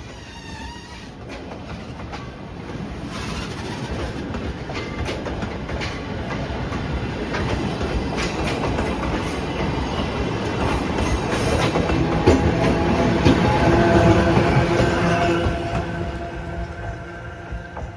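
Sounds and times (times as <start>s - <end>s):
train rumble: 0.0s - 17.9s
train wheels clicking over rail joints: 0.0s - 17.9s.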